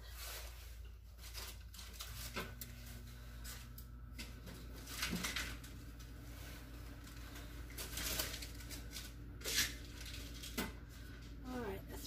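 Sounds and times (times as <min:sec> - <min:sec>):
hands working bread dough: 0:00.0 - 0:12.0
low steady hum: 0:00.0 - 0:12.0.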